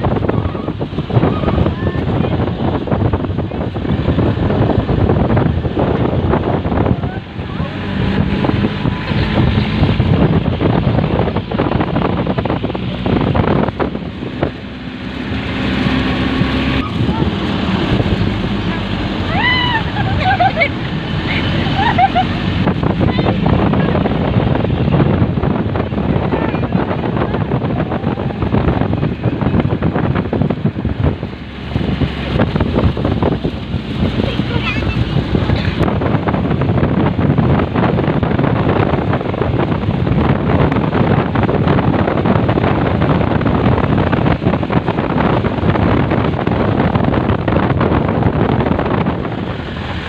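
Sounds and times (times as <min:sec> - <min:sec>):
vehicle engine running: 0:00.0 - 0:50.0
wind buffeting microphone: 0:00.0 - 0:50.0.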